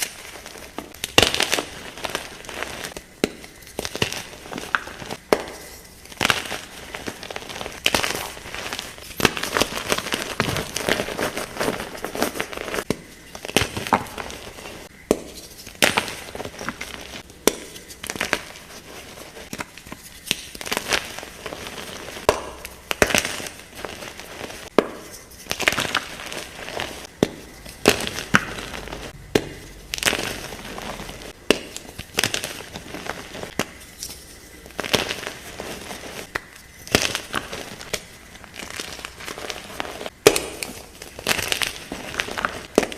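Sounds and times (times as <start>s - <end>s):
chalk crunching: 0.0s - 42.9s
powdery crumbling and rustling: 0.0s - 42.9s.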